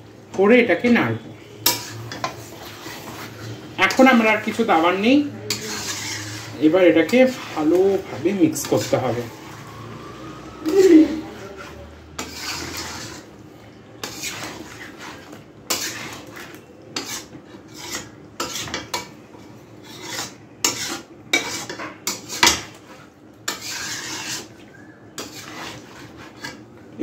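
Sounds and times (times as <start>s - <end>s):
metal spatula scraping a pan: 1.2s - 9.8s, 10.6s - 13.4s, 14.0s - 26.8s.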